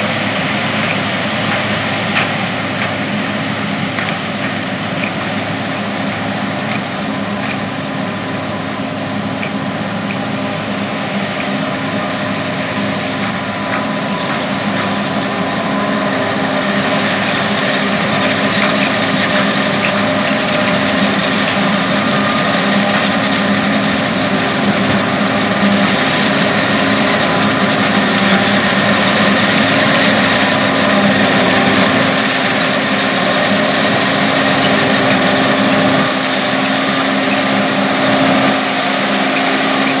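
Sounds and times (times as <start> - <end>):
forage harvester humming: 0.0 - 40.0
tractor diesel engine under load: 0.0 - 40.0.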